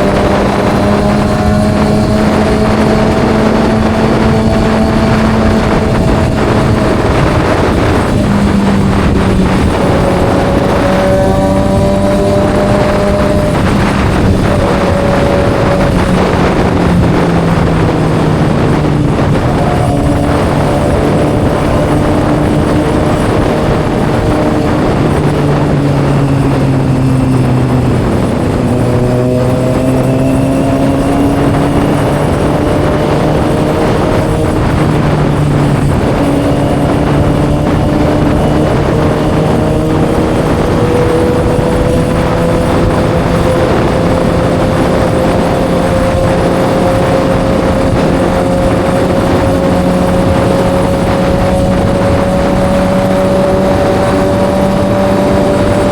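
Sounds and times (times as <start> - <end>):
motorcycle engine while riding: 0.0 - 55.9
wind noise rushing: 0.0 - 55.9.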